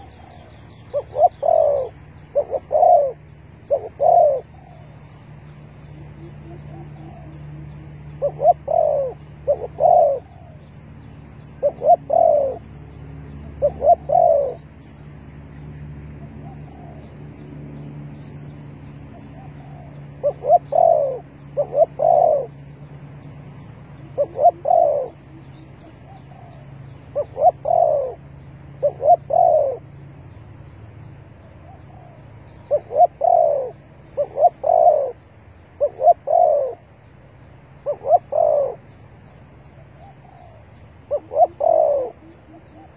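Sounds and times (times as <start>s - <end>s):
dove cooing: 0.0s - 5.1s, 5.8s - 10.8s, 11.5s - 14.8s, 16.1s - 17.2s, 19.2s - 30.0s, 31.4s - 37.0s, 37.8s - 38.9s, 39.8s - 42.9s
small birds chirping: 0.0s - 42.9s.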